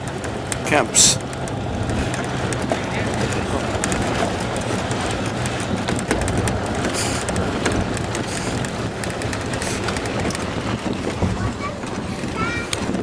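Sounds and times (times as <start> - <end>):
vehicle body rattling: 0.0 - 13.0
vehicle engine rumble: 0.0 - 13.0.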